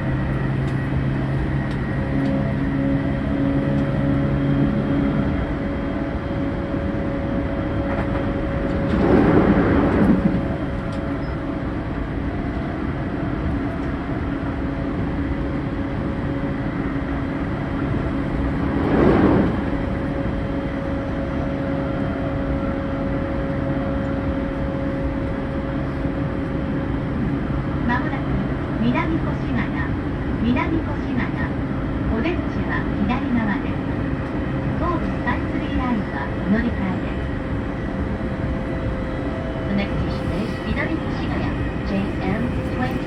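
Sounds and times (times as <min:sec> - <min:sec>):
train rail rumble: 0:00.0 - 0:43.0.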